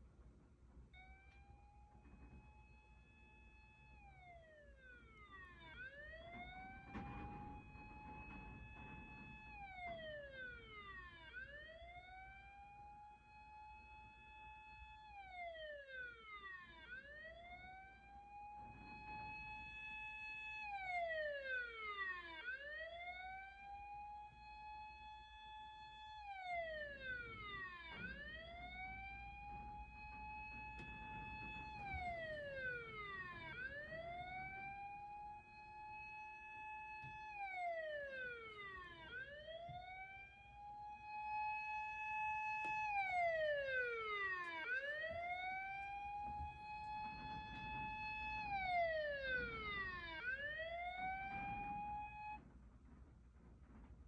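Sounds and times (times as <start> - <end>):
fire engine siren wailing: 0.0 - 53.8.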